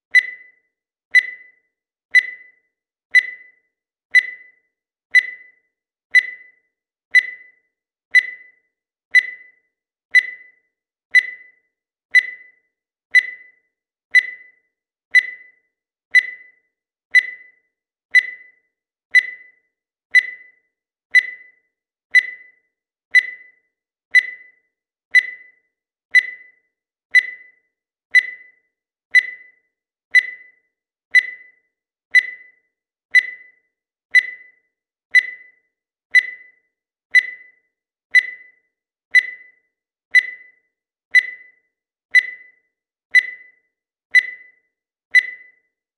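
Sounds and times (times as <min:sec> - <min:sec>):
digital timer beeping: 0:00.0 - 0:45.9.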